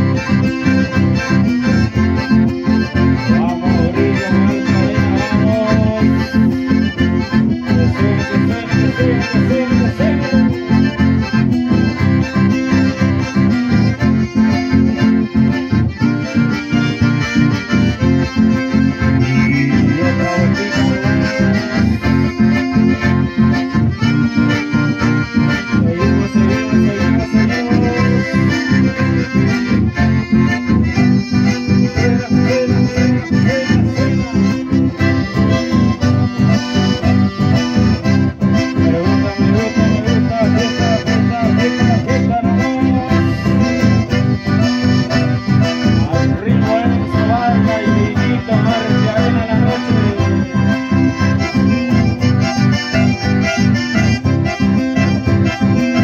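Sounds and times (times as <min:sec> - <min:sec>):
accordion melody: 0:00.0 - 0:56.0
strummed acoustic guitars: 0:00.0 - 0:56.0.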